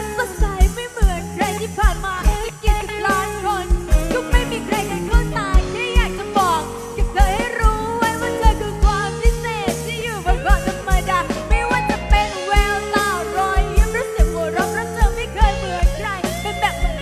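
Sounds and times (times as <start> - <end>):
live band music: 0.0 - 17.0.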